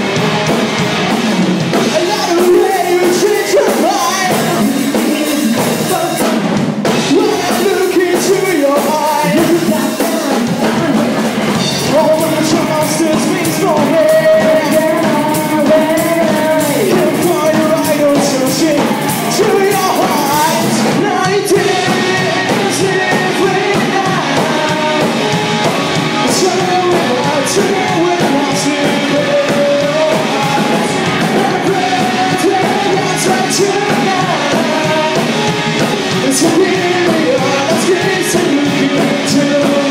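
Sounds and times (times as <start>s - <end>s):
drum kit with cymbal hits: 0.0s - 39.9s
electric guitar: 0.0s - 39.9s
person singing: 0.0s - 39.9s.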